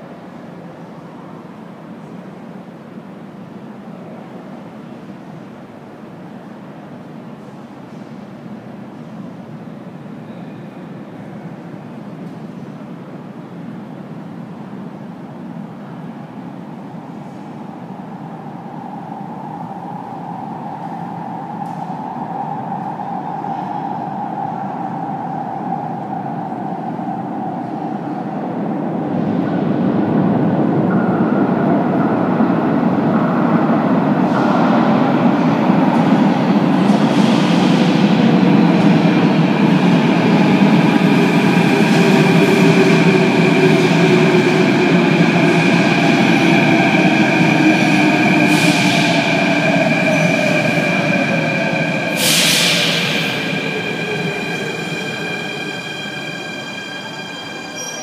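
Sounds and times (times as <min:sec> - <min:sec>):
high multi-tone train whine: 0:00.0 - 0:58.0
metro train rumble: 0:00.0 - 0:58.0.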